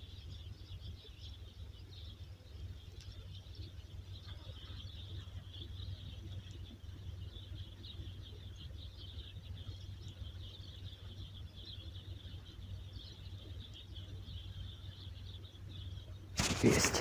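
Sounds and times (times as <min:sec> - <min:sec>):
low steady rumble: 0:00.0 - 0:16.4
small birds twittering: 0:00.0 - 0:17.0.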